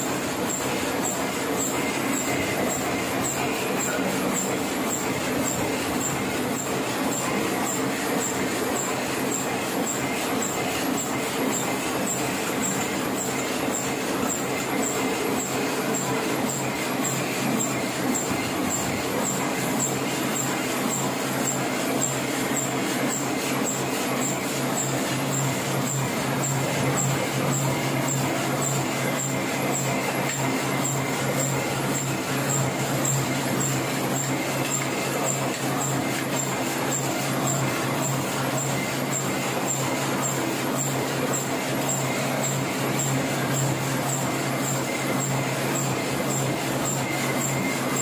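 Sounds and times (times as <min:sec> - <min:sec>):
printing press running: 0:00.0 - 0:48.0.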